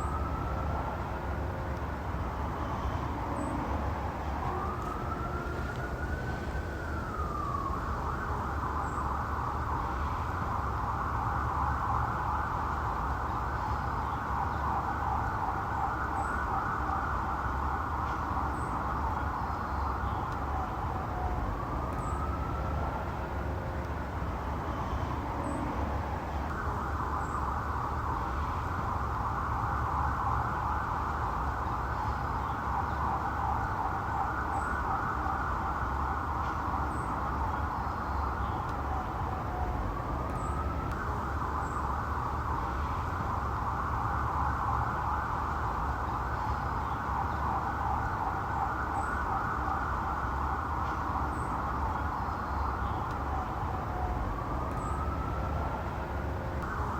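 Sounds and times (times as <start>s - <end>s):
police siren wail and warble: 0.0s - 56.9s.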